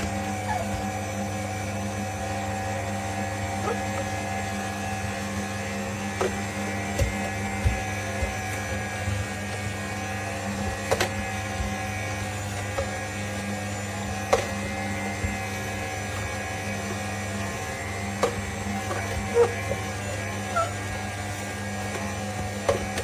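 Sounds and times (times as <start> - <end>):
juicer motor hum: 0.0 - 23.0.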